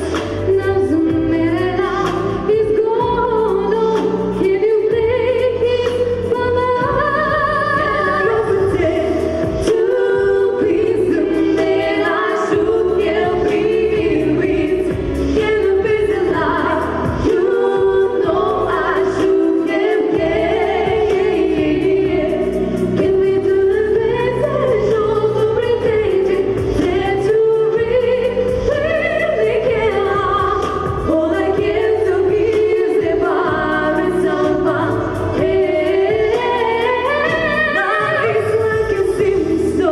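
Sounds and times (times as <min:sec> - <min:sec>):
girls singing a duet: 0:00.0 - 0:39.9
musical accompaniment: 0:00.0 - 0:39.9.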